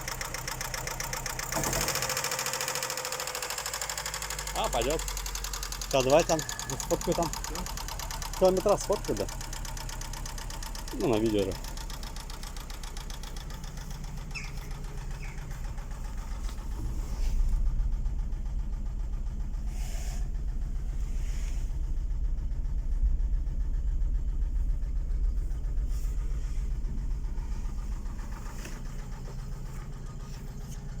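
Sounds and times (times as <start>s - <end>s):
car engine running with a knock: 0.0s - 31.0s.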